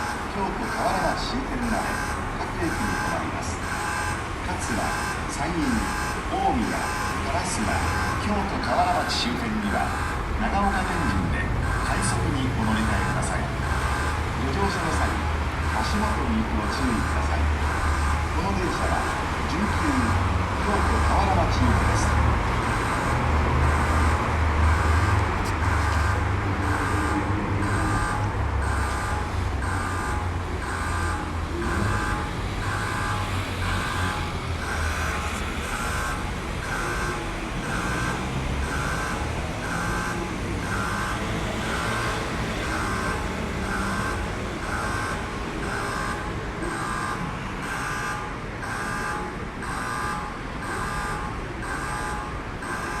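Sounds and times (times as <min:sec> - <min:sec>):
pulsing electronic alarm tone: 0:00.0 - 0:53.0.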